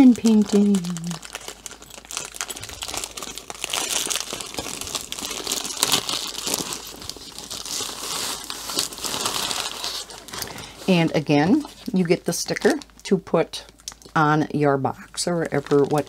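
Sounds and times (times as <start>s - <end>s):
plastic bag crinkling: 0.0s - 14.2s, 15.1s - 16.0s.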